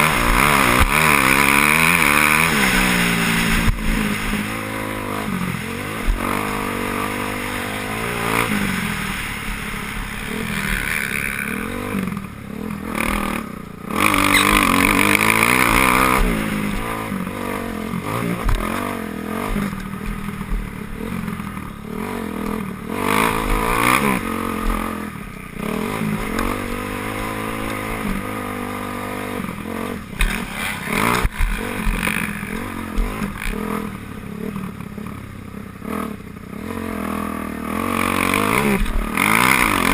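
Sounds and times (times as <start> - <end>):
motocross bikes revving past: 0.0 - 39.9.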